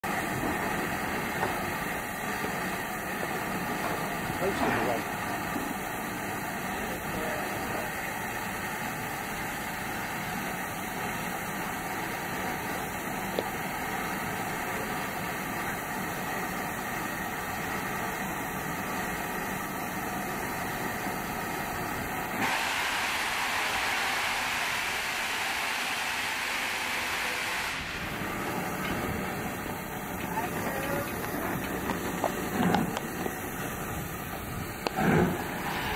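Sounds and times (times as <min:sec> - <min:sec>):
sharp hiss of escaping steam: 0:00.0 - 0:35.9
steam locomotive hissing: 0:00.0 - 0:35.9.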